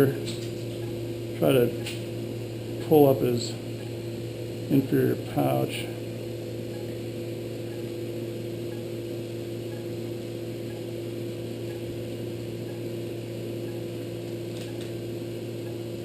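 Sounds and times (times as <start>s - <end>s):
machine hum with tones: 0.0s - 16.0s.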